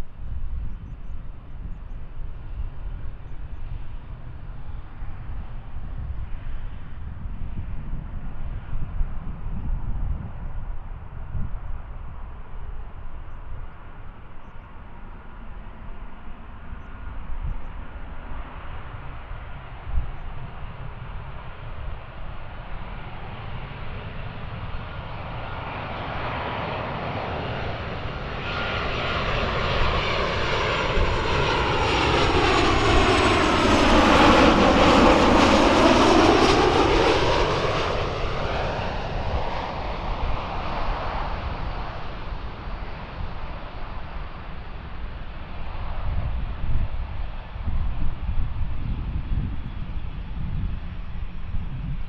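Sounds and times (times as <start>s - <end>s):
jet airliner passing: 0.0s - 52.0s.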